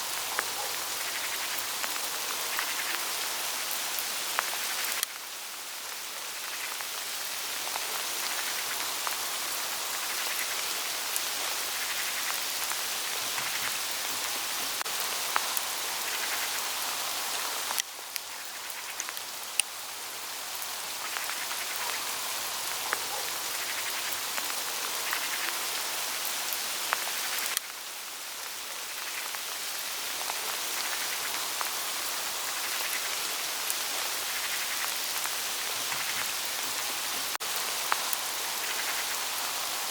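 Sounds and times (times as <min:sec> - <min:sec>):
hail pattering on leaves: 0:00.0 - 0:39.9.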